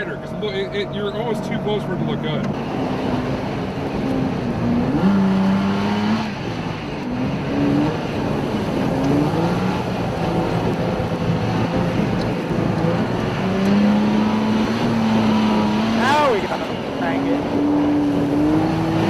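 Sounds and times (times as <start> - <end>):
steady rushing noise: 0.0 - 19.0
truck engine revving: 0.0 - 19.0.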